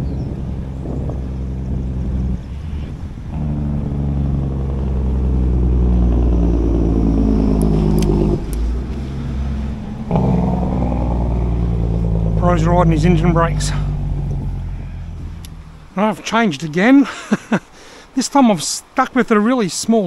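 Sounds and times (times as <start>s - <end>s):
truck engine brake drone: 0.0s - 16.3s.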